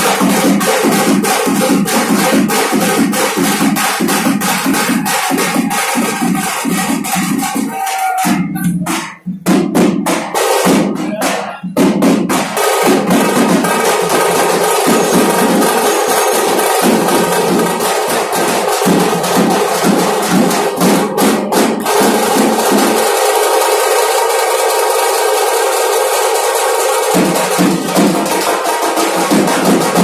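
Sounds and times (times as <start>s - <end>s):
dhol drumming: 0.0s - 30.0s.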